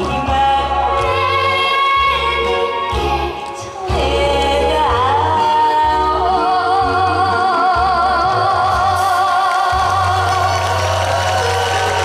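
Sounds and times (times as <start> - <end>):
backing band accompaniment: 0.0 - 12.0
bass: 0.0 - 12.0
person singing with vibrato: 0.0 - 12.0.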